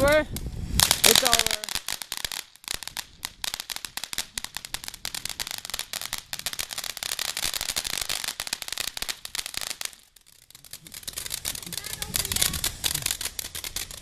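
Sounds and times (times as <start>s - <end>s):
firework fizzing hiss: 0.0s - 14.0s
firework sparks crackling: 0.0s - 14.0s.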